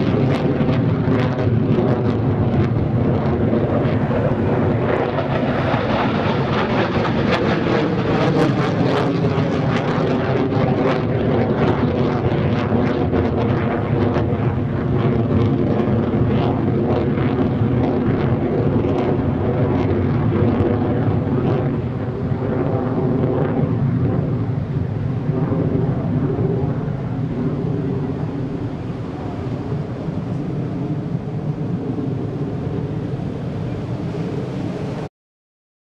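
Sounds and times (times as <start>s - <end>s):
jet engine roar overhead: 0.0s - 35.1s.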